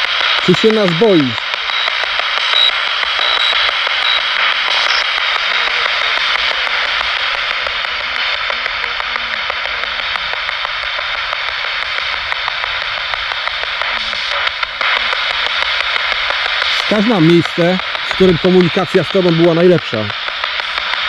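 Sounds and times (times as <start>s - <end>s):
faint rapid clicks: 0.0s - 21.0s
radio static hiss: 0.0s - 21.0s.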